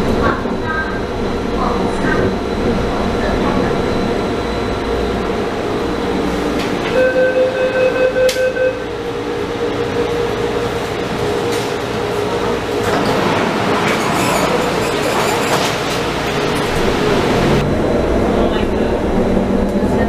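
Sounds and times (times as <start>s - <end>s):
train running and slowing: 0.0s - 20.0s.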